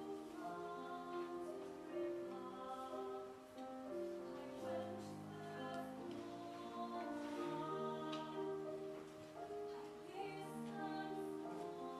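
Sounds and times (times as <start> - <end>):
mixed choir singing harmony: 0.0 - 3.4, 4.0 - 9.0, 9.7 - 11.9.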